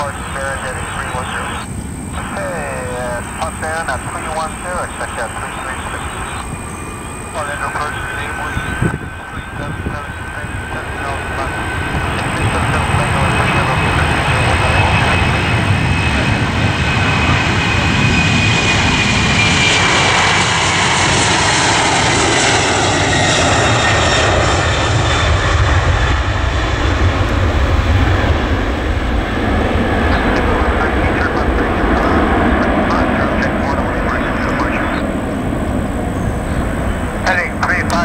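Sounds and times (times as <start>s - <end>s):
jet engine whine: 0.0s - 38.0s
jet engines rumbling: 0.0s - 38.0s.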